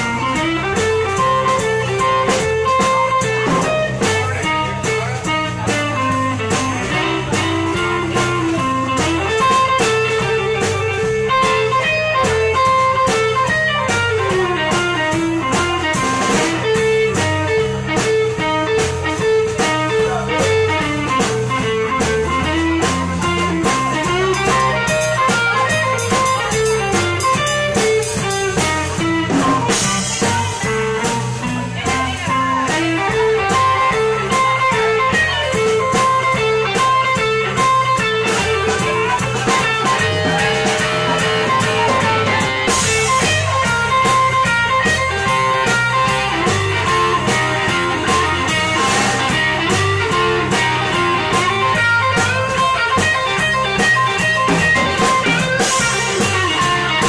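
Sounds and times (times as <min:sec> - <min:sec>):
bass guitar line: 0:00.0 - 0:57.0
drum kit: 0:00.0 - 0:57.0
electric guitar: 0:00.0 - 0:57.0.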